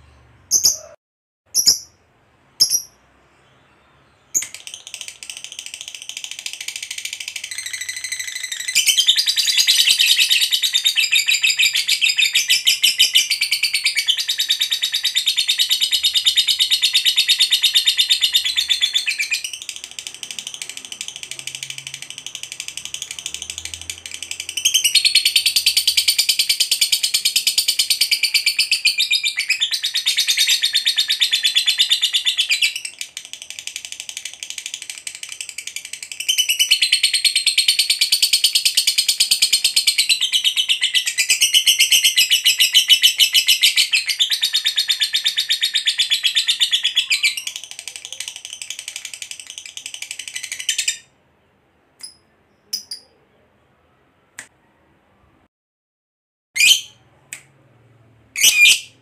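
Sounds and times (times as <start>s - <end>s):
lovebird chattering song: 0.4s - 1.0s, 1.6s - 2.0s, 2.6s - 3.5s, 4.1s - 51.1s, 52.0s - 53.2s, 58.4s - 59.0s.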